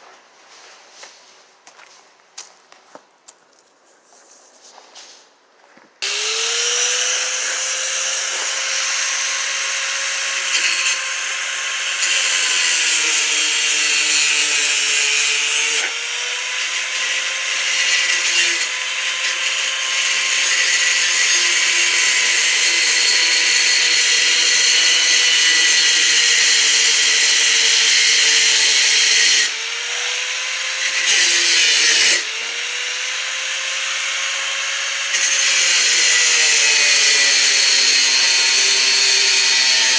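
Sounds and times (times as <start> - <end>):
angle grinder cutting: 6.0 - 39.9.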